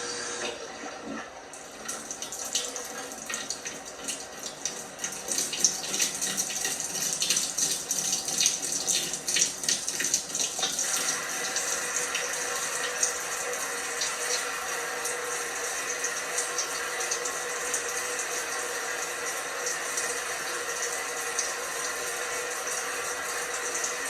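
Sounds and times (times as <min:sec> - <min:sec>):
washing machine hum: 0:00.0 - 0:24.0
water splashing in washing machine: 0:00.6 - 0:24.0.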